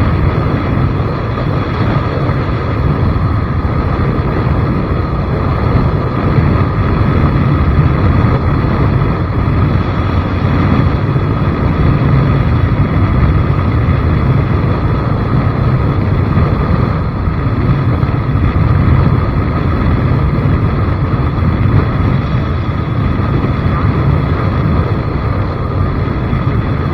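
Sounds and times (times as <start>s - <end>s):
vehicle running noise: 0.0s - 26.9s
wind rumble on microphone: 0.0s - 26.9s.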